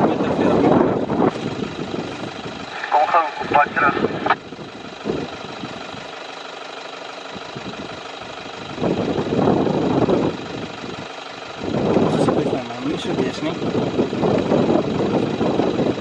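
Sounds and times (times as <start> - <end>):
rough engine noise: 0.0 - 16.0
vehicle engine idling: 0.0 - 16.0.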